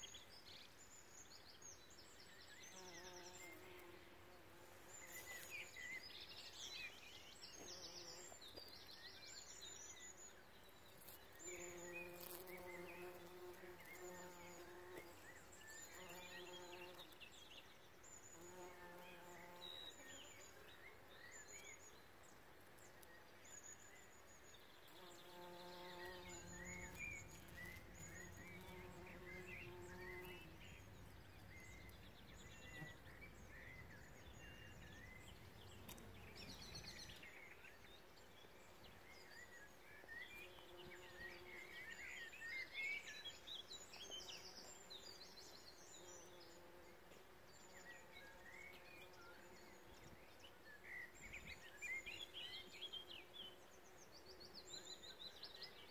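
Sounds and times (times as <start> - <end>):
faint birdsong: 0.0 - 55.9.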